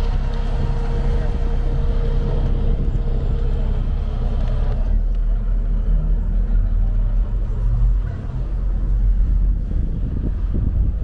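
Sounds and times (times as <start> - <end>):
boat diesel engine rumbling: 0.0 - 11.0.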